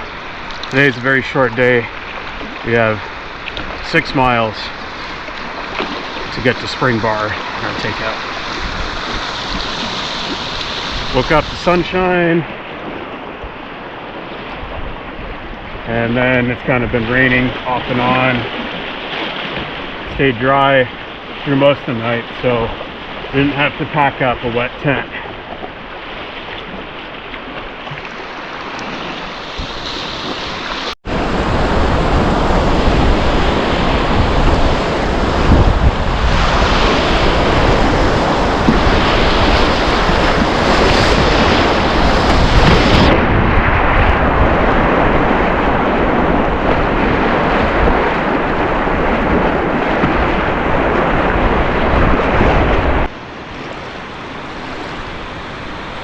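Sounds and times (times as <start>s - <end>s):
whitewater rushing: 0.0s - 25.4s, 26.4s - 56.0s
wind rumbling on microphone: 0.0s - 56.0s.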